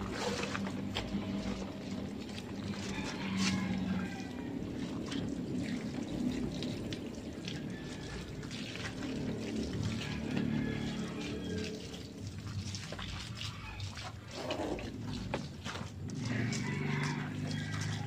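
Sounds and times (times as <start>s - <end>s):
hose water splashing: 0.0s - 18.0s.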